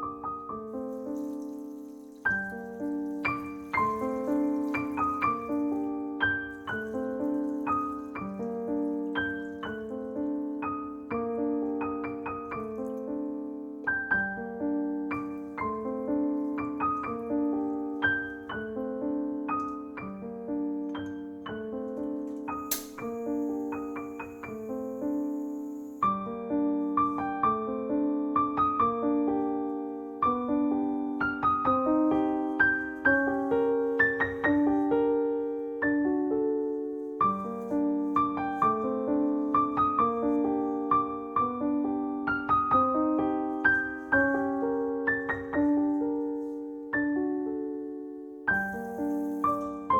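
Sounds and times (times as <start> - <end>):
gentle piano melody: 0.0 - 49.9.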